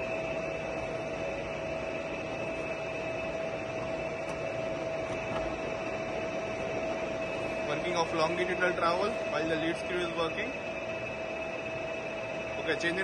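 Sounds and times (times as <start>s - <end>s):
lathe humming with whine: 0.0s - 13.0s.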